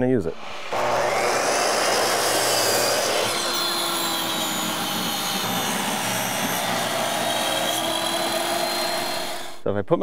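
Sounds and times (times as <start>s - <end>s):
power saw whining: 0.3s - 9.6s.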